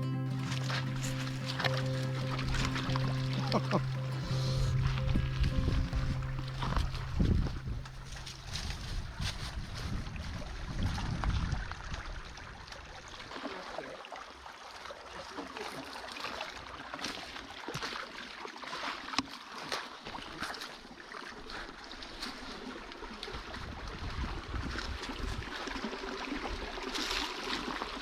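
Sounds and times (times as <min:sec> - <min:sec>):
creek running over rocks: 0:00.0 - 0:28.0.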